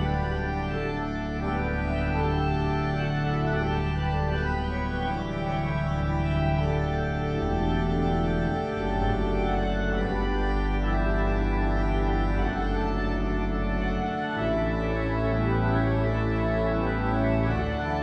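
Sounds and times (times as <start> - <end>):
organ playing chords: 0.0 - 18.0.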